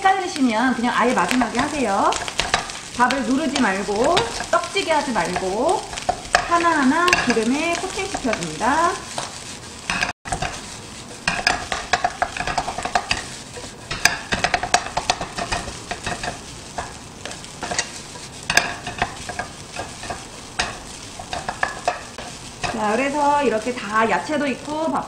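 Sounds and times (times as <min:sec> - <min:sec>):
rice sizzling in a frying pan: 0:00.0 - 0:25.0
spatula scraping and knocking pan: 0:00.7 - 0:25.0.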